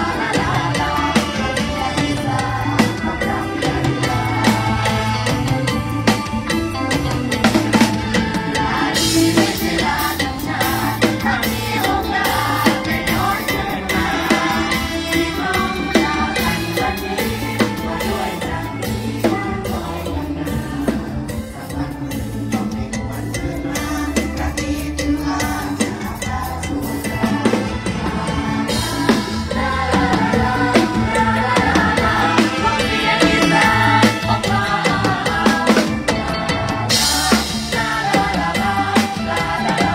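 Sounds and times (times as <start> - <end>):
bass: 0.0 - 39.9
drum kit beat: 0.0 - 39.9
folk band music: 0.0 - 39.9.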